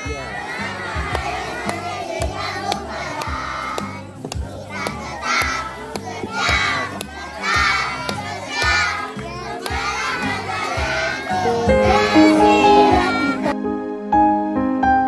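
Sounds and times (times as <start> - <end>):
children shouting together: 0.0 - 3.2, 4.6 - 13.6
music beat: 0.0 - 13.6
held melodic music notes: 0.0 - 15.0.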